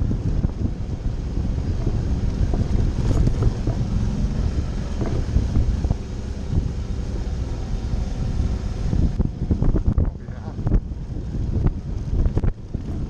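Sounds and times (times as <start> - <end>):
motorcycle engine drone: 0.0 - 13.0
wind buffeting microphone: 0.0 - 13.0.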